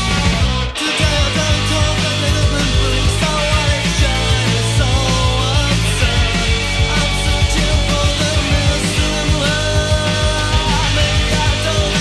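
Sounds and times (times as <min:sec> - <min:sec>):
bass guitar: 0:00.0 - 0:12.0
drum machine beat: 0:00.0 - 0:12.0
electric guitar: 0:00.0 - 0:12.0.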